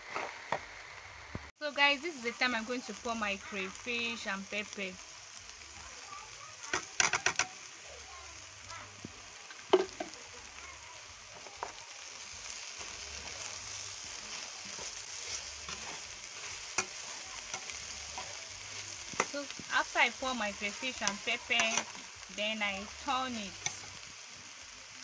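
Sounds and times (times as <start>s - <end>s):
okra sizzling in oil: 0.0s - 25.0s.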